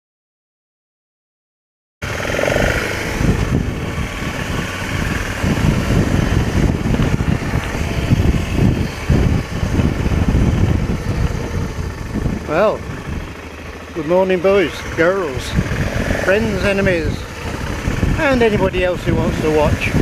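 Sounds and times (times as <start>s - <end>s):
motorcycle engine running: 2.0s - 20.0s.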